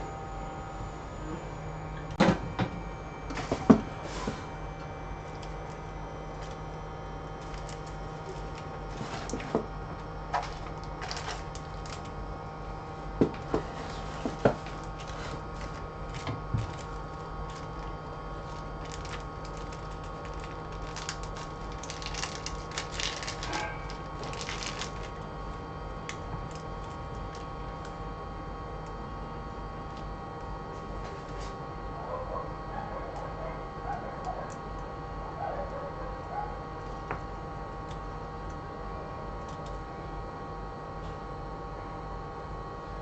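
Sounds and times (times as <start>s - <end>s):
steady electrical hum: 0.0s - 43.0s.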